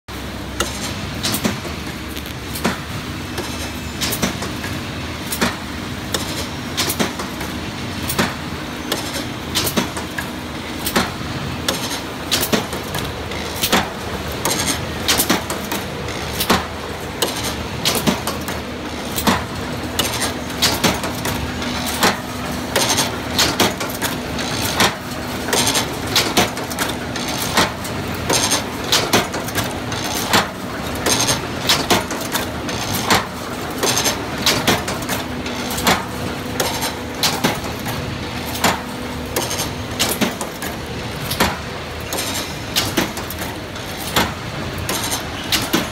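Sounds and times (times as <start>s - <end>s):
steady motor hum: 0.1s - 45.9s.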